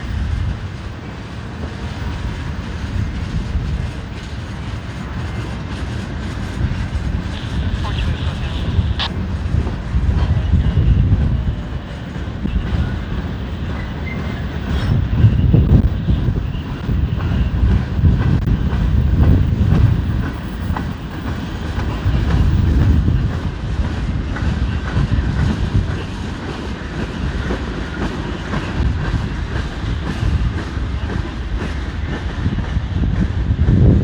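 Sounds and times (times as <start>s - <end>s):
freight train rumbling: 0.0s - 34.0s.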